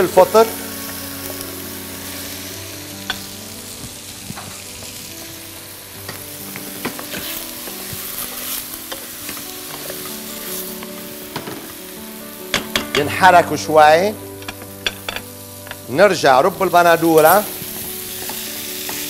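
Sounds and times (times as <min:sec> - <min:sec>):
food frying with sizzle: 0:00.0 - 0:19.0.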